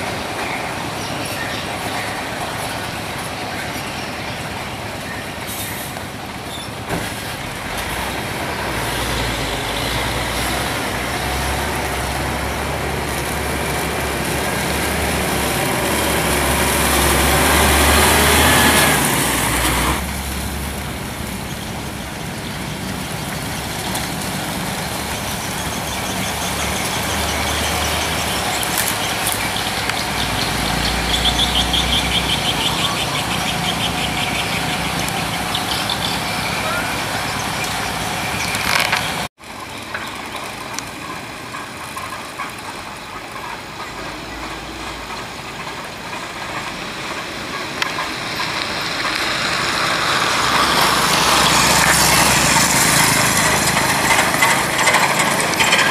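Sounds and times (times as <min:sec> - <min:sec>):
diesel truck engines: 0:00.0 - 0:55.9.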